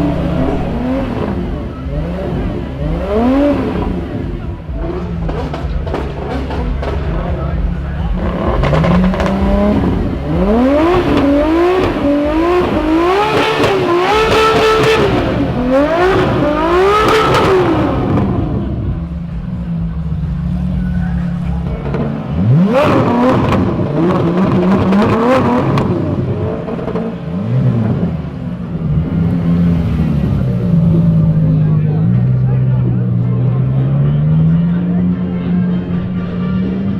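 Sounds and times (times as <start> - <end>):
car engine idling: 0.0 - 36.9
car engine revving: 0.0 - 36.9.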